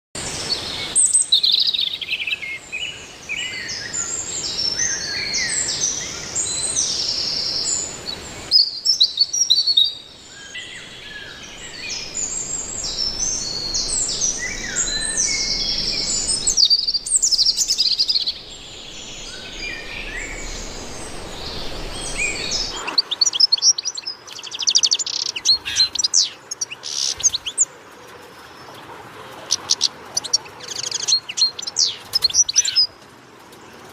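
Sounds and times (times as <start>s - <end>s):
birds chirping and trilling: 0.2s - 33.9s
faint background hiss: 0.2s - 33.9s.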